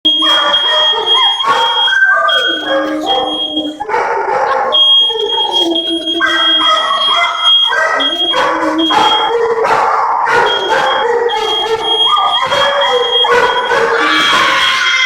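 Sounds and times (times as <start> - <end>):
smoke alarm high tone: 0.0 - 15.0
dogs howling and yipping: 0.1 - 15.0.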